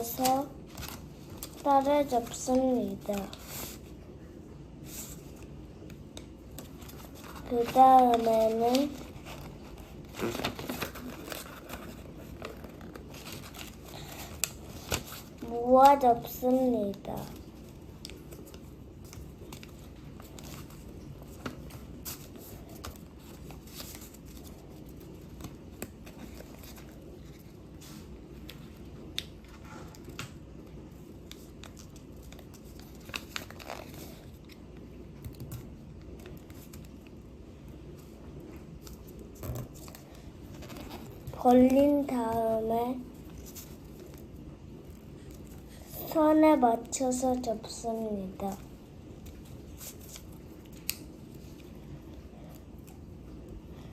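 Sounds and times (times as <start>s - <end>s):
paper crinkling and folding: 0.0s - 4.2s, 4.8s - 53.5s
low steady background noise: 0.0s - 53.9s.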